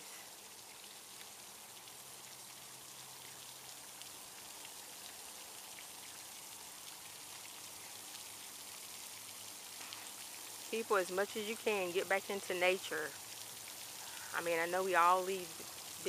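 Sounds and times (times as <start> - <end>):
water sprinkler spraying: 0.0 - 16.0.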